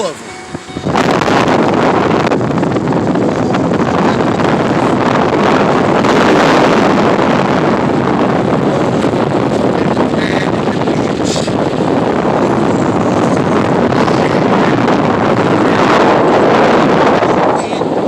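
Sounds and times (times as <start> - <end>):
car driving: 0.0 - 18.0
wind noise on microphone: 0.0 - 18.0.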